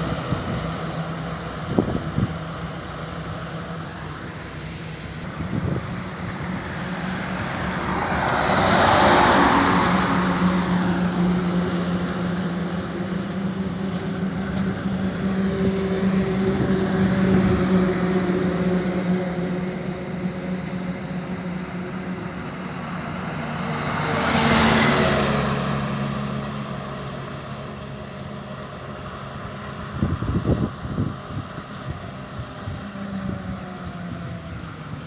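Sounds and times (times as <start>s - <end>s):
heavy truck engine running: 0.0s - 35.0s
vehicle passing by: 0.0s - 35.0s.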